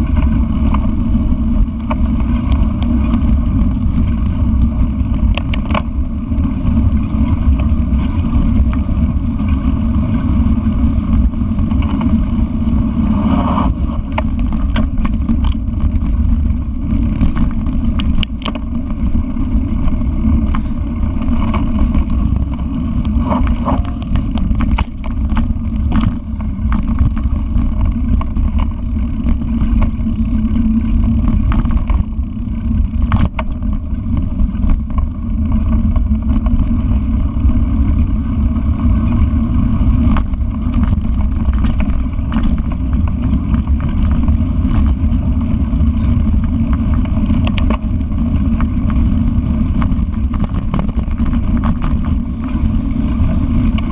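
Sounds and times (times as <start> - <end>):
bike rattling and clicking: 0.0 - 53.9
wind on microphone: 0.0 - 53.9.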